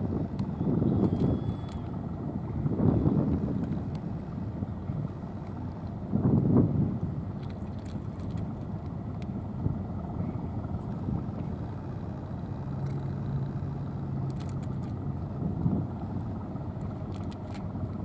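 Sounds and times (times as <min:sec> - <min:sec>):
low engine hum: 0:00.0 - 0:18.0
wind rumbling on microphone: 0:00.0 - 0:18.0.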